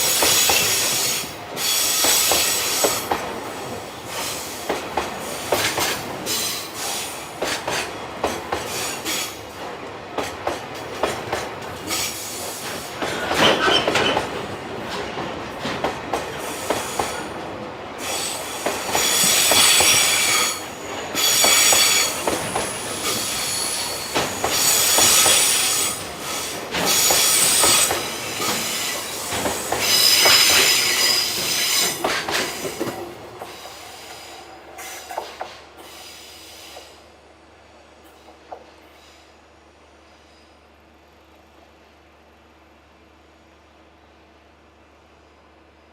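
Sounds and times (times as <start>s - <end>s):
freight train rolling past: 0.0s - 45.9s.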